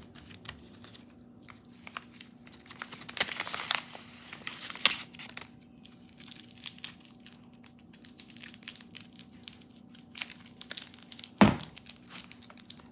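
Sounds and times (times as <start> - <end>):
paper crinkling: 0.0 - 12.9.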